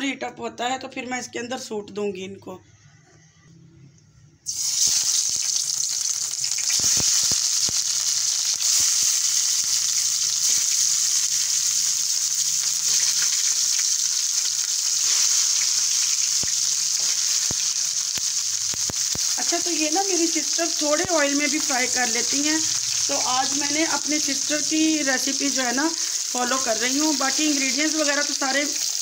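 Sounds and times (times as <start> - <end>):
food sizzling in hot oil: 4.4 - 29.0
oil popping and crackling: 4.5 - 29.0.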